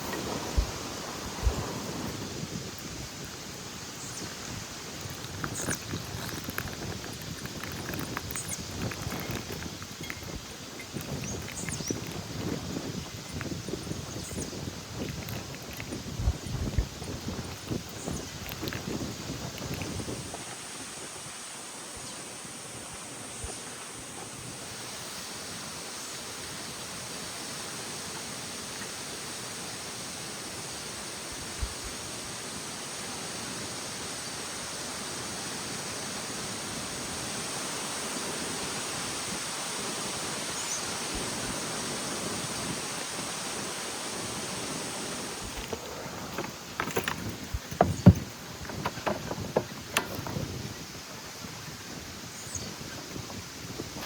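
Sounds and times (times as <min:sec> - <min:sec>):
outdoor ambient hiss: 0:00.0 - 0:54.0.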